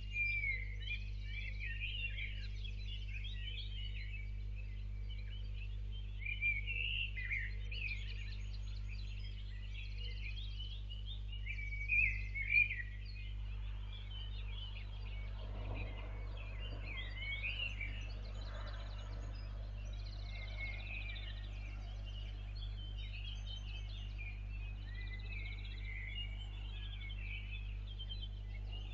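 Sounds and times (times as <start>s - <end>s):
songbirds chirping and trilling: 0.0s - 28.9s
steady low hum: 0.0s - 28.9s.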